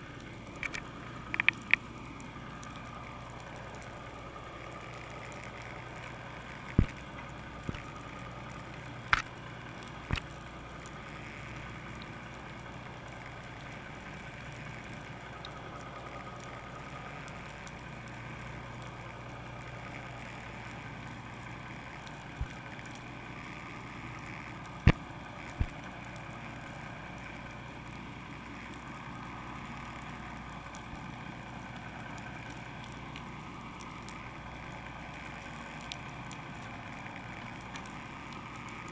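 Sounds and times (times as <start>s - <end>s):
boat engine idling: 0.0s - 38.9s.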